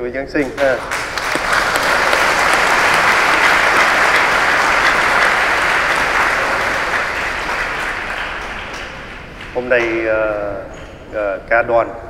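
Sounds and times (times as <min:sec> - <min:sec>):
audience applauding: 0:00.4 - 0:11.0.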